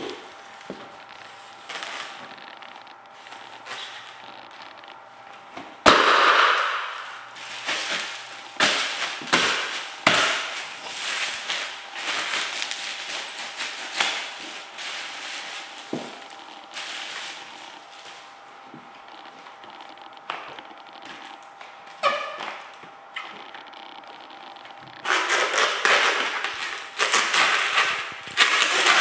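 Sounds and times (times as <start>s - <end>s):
foil balloon popping: 0.0s - 29.0s
foil crunching and crinkling: 0.0s - 29.0s.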